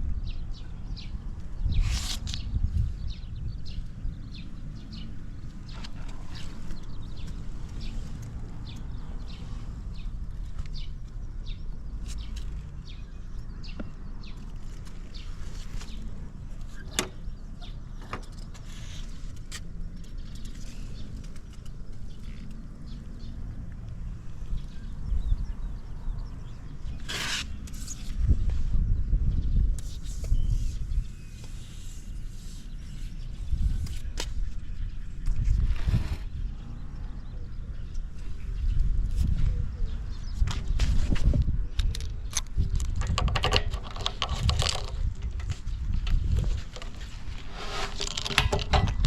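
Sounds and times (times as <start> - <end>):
birds chirping: 0.1 - 49.0.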